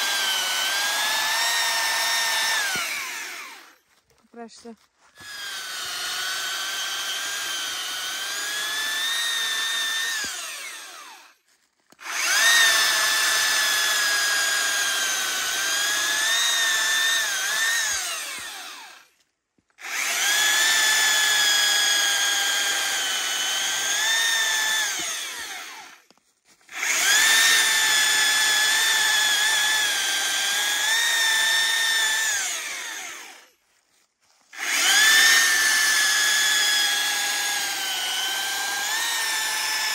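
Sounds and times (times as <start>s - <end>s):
electric chainsaw cutting wood: 0.0s - 3.8s, 4.6s - 19.2s, 19.8s - 33.6s, 34.5s - 39.9s.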